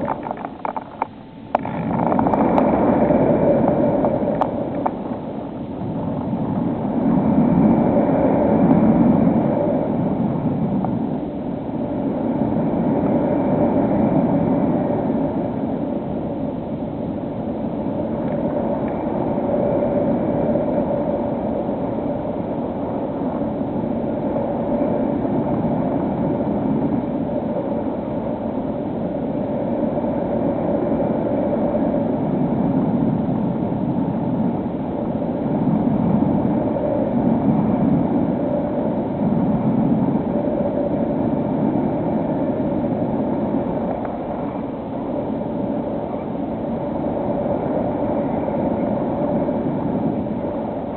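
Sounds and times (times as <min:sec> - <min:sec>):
rush of air: 0:00.0 - 0:50.9.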